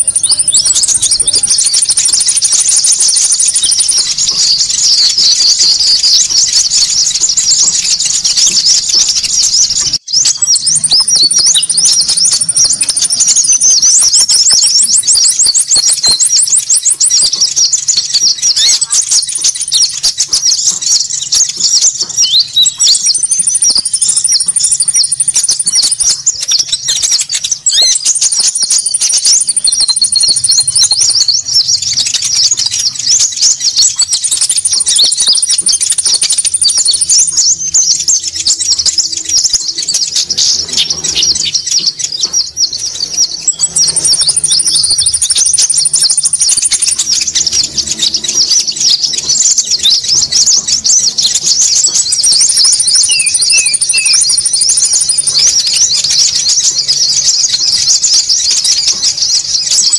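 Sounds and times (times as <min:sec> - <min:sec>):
birds chirping in dense chatter: 0:00.0 - 0:59.9
buzzy bird trill: 0:00.0 - 0:59.9.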